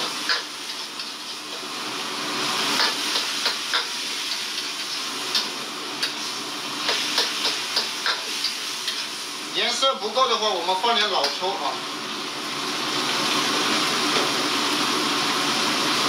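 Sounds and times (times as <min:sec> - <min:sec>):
stir-fry sizzling in a wok: 0:00.0 - 0:16.0.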